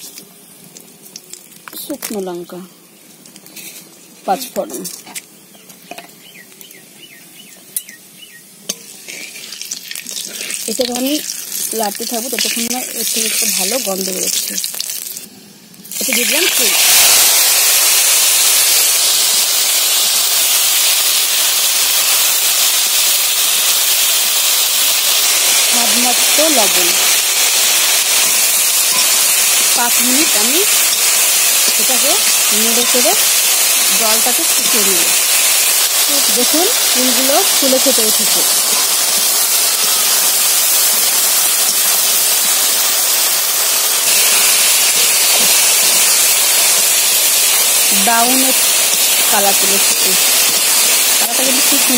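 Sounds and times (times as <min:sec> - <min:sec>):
fruit sizzling in hot oil: 0:00.0 - 0:51.9.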